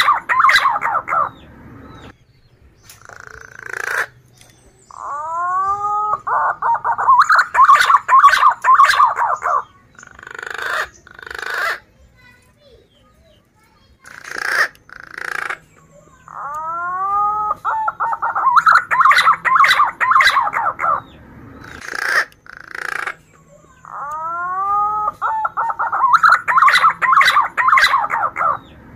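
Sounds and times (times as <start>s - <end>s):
pigeon whistling song: 0.0s - 11.8s, 14.2s - 28.9s.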